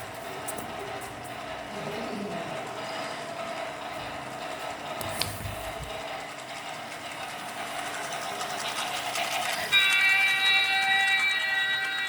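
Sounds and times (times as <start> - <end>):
train rattle and rumble: 0.0 - 12.0.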